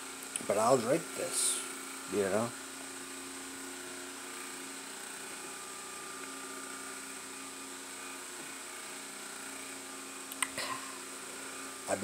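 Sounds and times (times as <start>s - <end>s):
machine hum with high whine: 0.0s - 12.0s.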